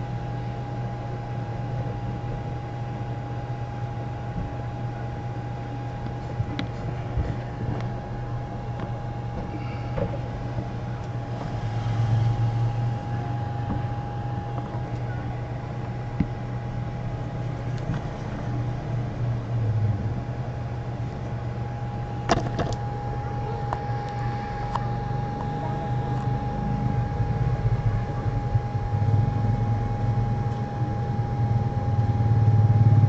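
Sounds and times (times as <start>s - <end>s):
low droning hum: 0.0s - 33.0s
thin constant tone: 0.0s - 33.0s.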